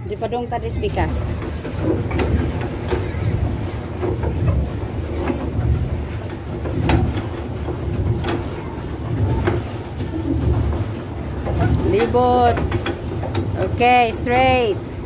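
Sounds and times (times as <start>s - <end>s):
low rumble of boat: 0.0s - 15.0s.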